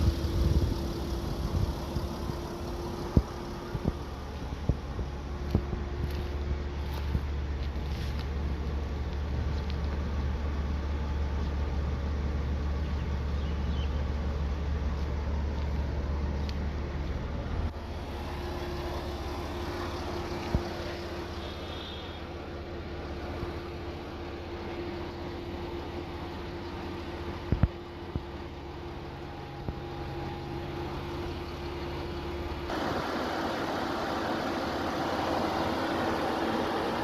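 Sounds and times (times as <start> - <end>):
low vehicle hum: 0.0 - 37.0.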